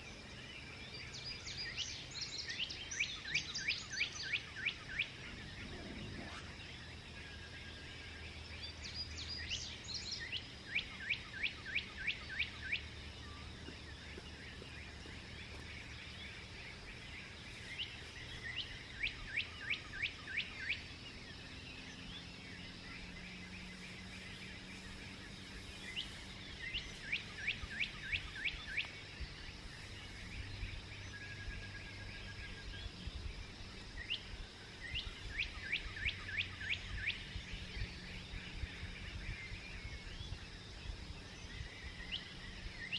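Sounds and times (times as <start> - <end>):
faint background noise: 0.0 - 42.9
songbird singing: 0.0 - 42.9.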